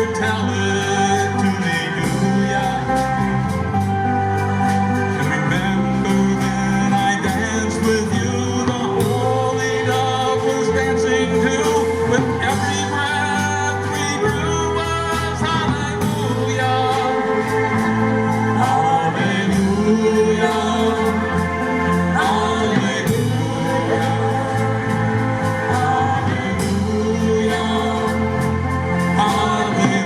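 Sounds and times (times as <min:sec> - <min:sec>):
live band playing: 0:00.0 - 0:30.0
person singing: 0:00.0 - 0:30.0.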